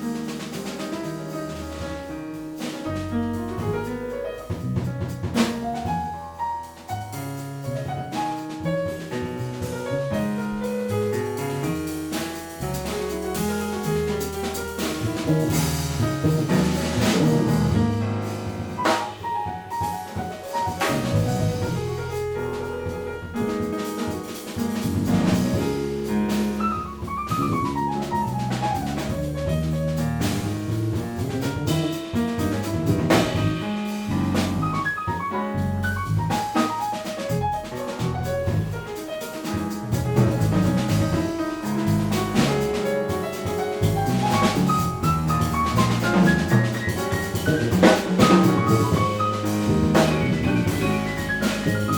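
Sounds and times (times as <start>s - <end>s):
drum kit with cymbals: 0.0s - 51.9s
piano playing quick lines: 0.0s - 51.9s
walking double bass: 0.0s - 51.9s.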